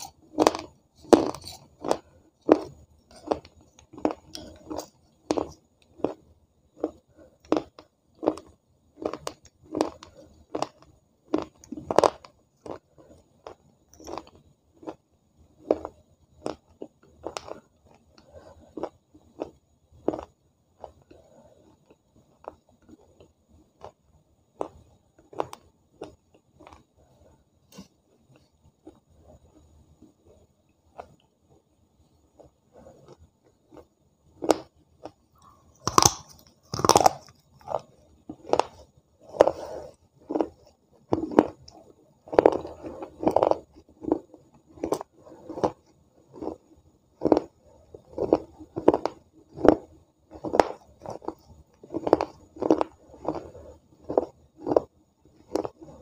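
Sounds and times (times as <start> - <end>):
person chewing crunchy food: 0.0 - 31.2, 32.2 - 56.0.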